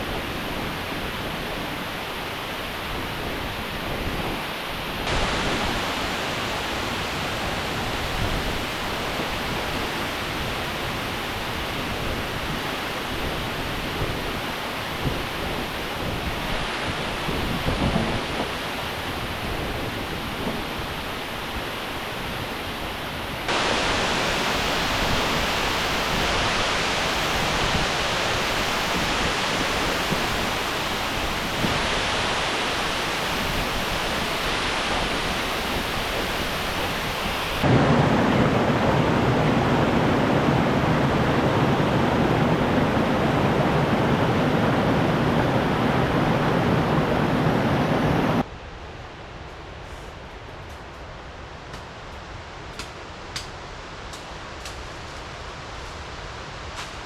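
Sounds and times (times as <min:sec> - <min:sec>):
falling water rushing: 0:00.0 - 0:48.5.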